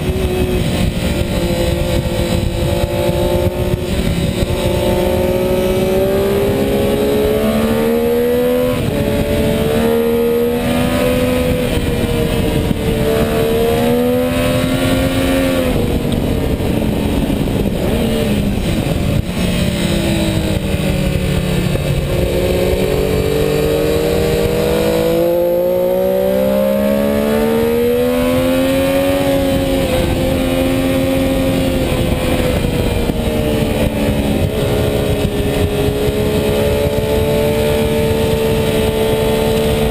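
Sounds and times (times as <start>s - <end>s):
motorcycle engine accelerating: 0.0s - 39.9s
wind rush: 0.0s - 39.9s.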